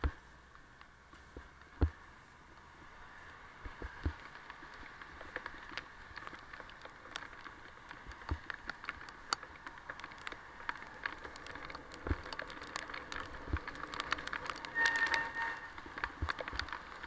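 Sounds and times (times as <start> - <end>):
rain hissing on wet road: 0.0 - 17.0
raindrops tapping near microphone: 0.0 - 17.0.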